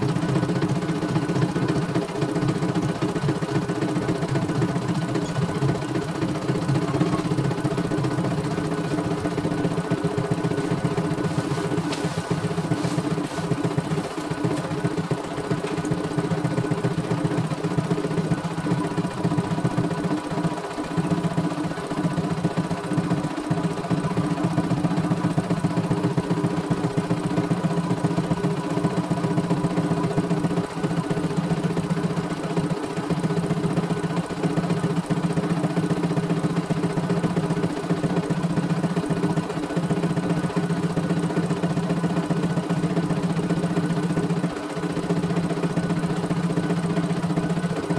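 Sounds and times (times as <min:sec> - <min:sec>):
motor hum: 0:00.0 - 0:47.9.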